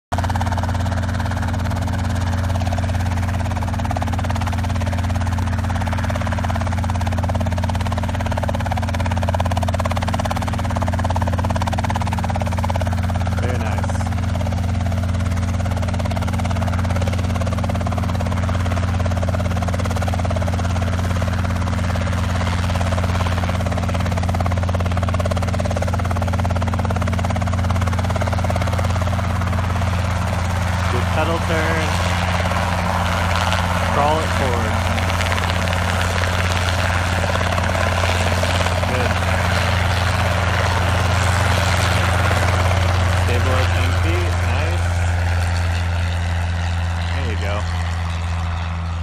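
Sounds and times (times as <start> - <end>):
helicopter engine drone: 0.1 - 49.0
helicopter rotor beating: 0.1 - 49.0.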